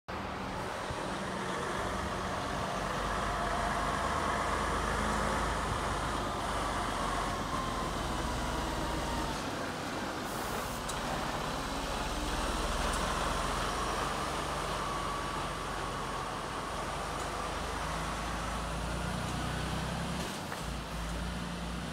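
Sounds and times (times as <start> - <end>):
truck diesel engine running: 0.1 - 21.9.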